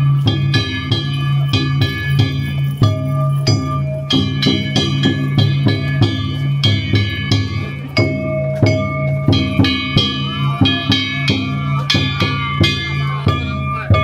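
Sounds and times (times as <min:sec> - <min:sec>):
drums: 0:00.0 - 0:14.0
metal hand gongs struck: 0:00.0 - 0:14.0.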